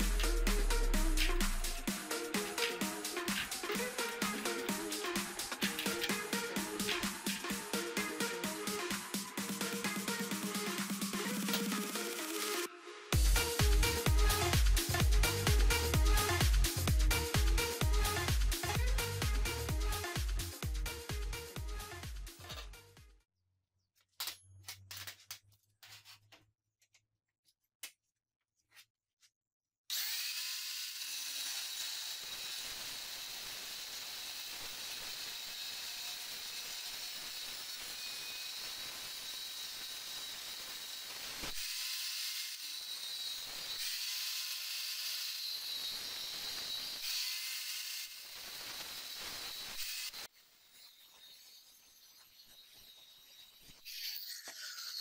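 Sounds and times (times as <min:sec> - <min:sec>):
angle grinder cutting steel: 0:00.0 - 0:22.7, 0:29.9 - 0:55.0.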